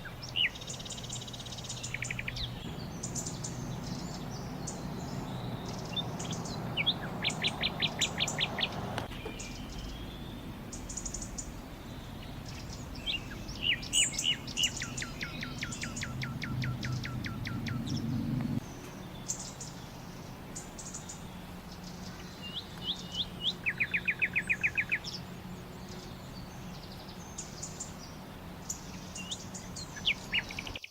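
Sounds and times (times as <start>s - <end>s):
low background hum: 0.0s - 30.8s
bird chirps: 0.0s - 30.9s
songbirds singing: 0.0s - 30.9s.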